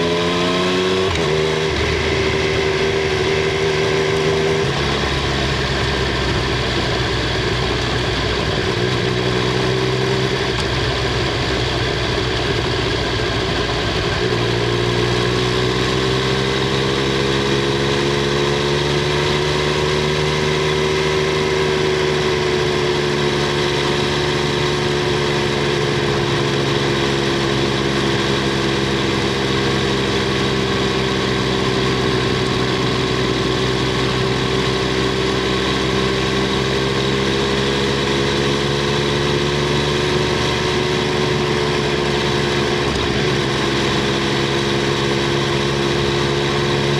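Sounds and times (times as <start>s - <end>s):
motorcycle engine and exhaust: 0.0s - 46.9s.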